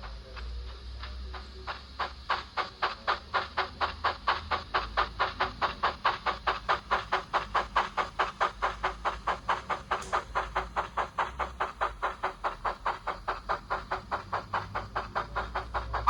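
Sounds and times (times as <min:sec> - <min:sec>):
model steam locomotive chuffing: 0:00.0 - 0:16.0.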